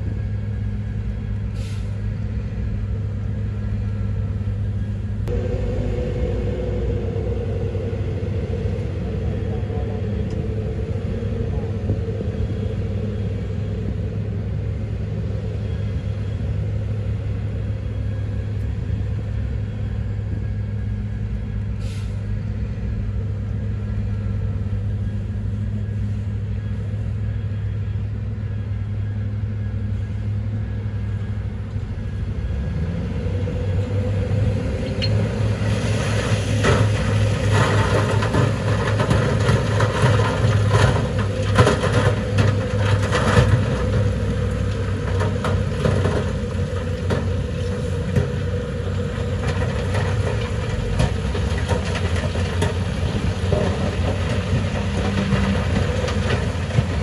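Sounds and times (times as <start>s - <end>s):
heavy diesel engine rumbling: 0.0s - 57.0s.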